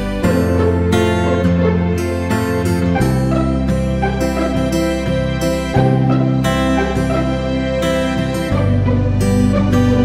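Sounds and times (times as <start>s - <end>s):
instrumental music with plucked strings: 0.0s - 10.0s.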